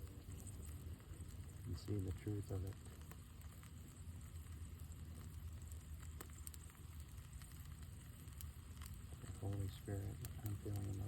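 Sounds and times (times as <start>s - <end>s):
campfire crackling: 0.0s - 11.0s
fire popping: 0.0s - 11.0s.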